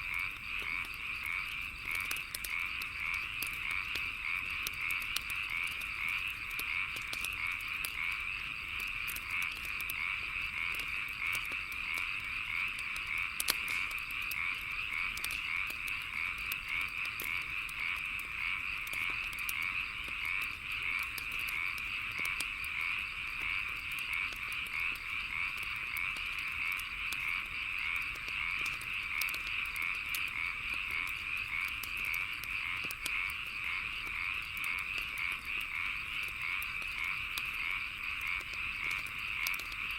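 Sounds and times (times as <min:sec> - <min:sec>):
chorus of frogs calling: 0:00.0 - 0:39.9
wood fire crackling: 0:00.0 - 0:39.9.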